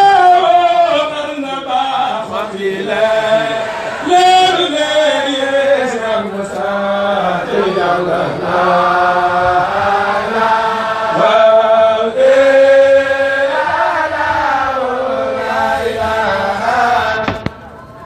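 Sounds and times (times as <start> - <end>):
voices chanting religious verse: 0.0 - 18.0.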